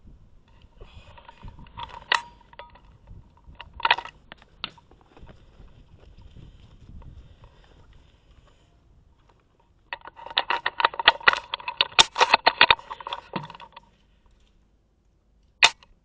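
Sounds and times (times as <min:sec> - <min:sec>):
rifle gear clicks and knocks: 0:00.5 - 0:08.6, 0:09.2 - 0:14.6.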